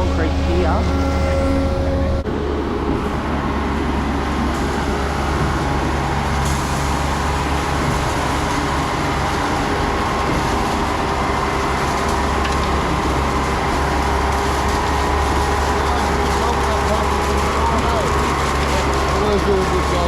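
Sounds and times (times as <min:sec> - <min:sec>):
mixer truck engine drone: 0:00.0 - 0:20.0.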